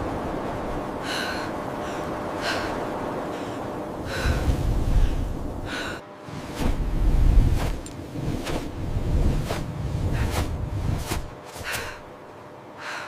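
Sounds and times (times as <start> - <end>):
blizzard wind: 0.0 - 13.0.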